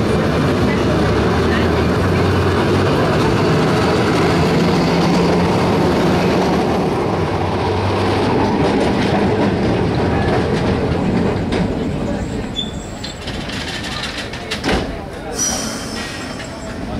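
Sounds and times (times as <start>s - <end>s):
streetcar wheels clattering on track: 0.0s - 16.9s.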